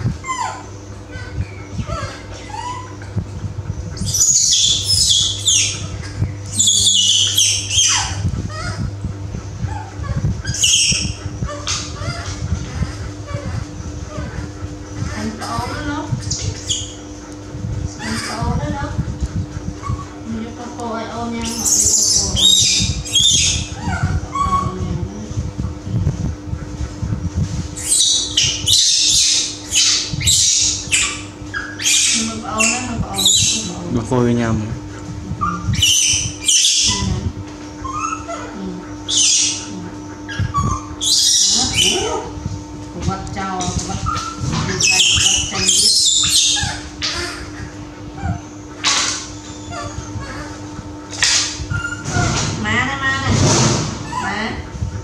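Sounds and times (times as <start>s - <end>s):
baby monkey screaming: 0.0s - 3.2s, 3.9s - 9.0s, 9.6s - 17.3s, 17.9s - 19.0s, 19.7s - 25.3s, 27.8s - 34.5s, 35.3s - 42.3s, 43.4s - 54.7s.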